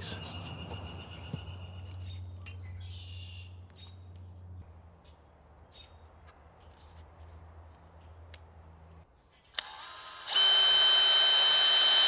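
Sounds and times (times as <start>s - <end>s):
faint birds chirping: 0.0s - 9.8s.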